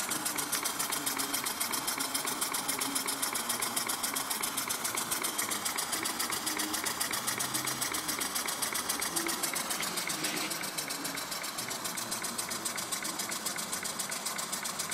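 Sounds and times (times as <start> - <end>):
model engine exhaust puffing: 0.0 - 14.9.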